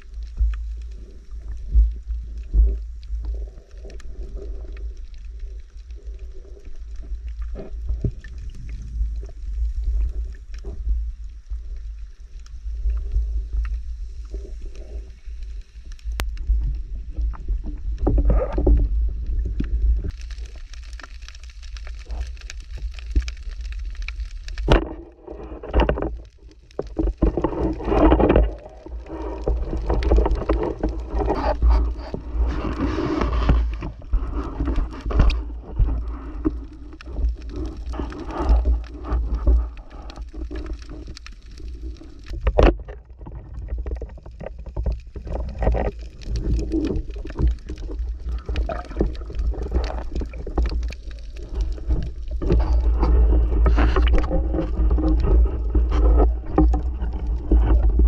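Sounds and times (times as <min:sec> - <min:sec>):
low underwater rumble: 0:00.0 - 0:58.0
muffled sloshing and bubbling water: 0:00.0 - 0:58.0.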